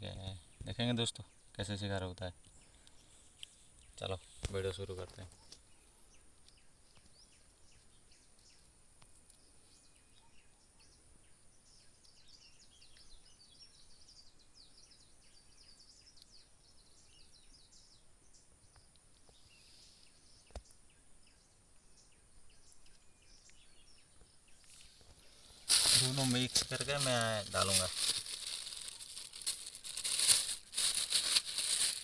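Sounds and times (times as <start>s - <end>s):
small bird chirps: 0.0s - 32.0s.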